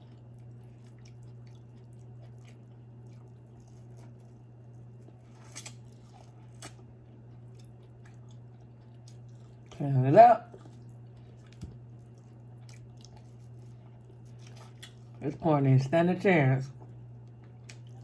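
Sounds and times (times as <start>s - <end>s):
person chewing food: 0.0s - 9.8s, 10.4s - 15.2s, 16.7s - 18.0s.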